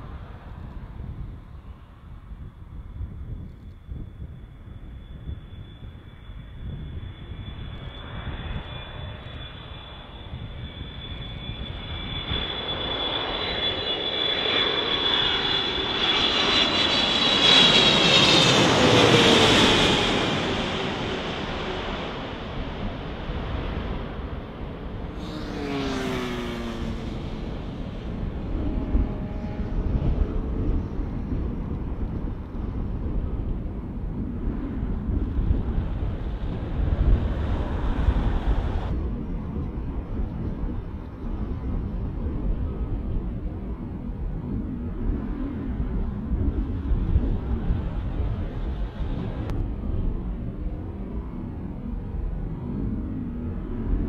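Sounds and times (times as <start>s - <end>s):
jet engine fan whine: 0.0s - 54.0s.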